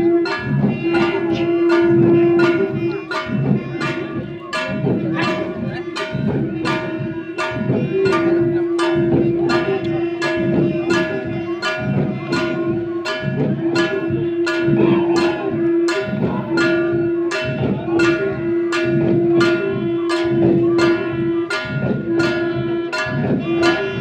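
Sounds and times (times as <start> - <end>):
drums beating steady rhythm: 0.0 - 24.0
ringing metallic tone: 0.0 - 24.0.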